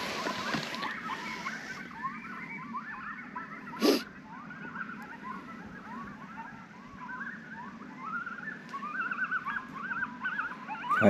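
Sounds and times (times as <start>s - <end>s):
coyotes yipping and howling: 0.0s - 11.0s.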